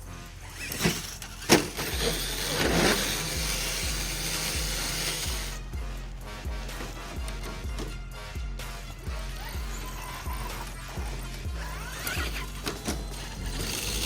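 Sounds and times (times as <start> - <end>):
toy truck gears whirring: 0.0 - 8.1, 8.7 - 14.0
background music with beat: 0.0 - 14.0.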